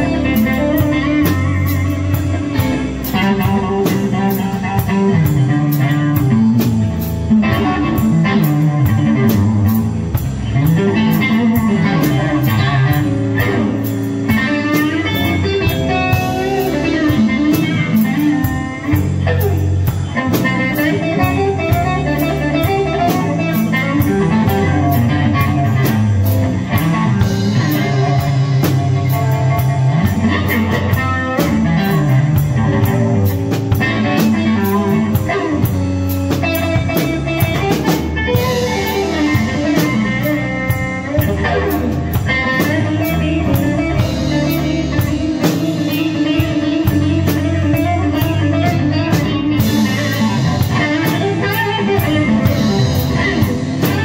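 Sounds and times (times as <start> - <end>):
bass guitar: 0.0 - 54.0
drum kit with cymbals: 0.0 - 54.0
electric guitar: 0.0 - 54.0.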